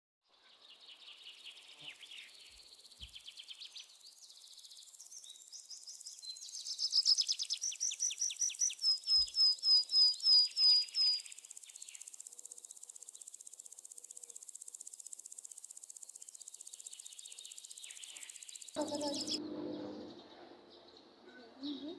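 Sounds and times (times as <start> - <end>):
songbird singing trills: 1.0 - 20.2
insects chirring: 1.8 - 19.4.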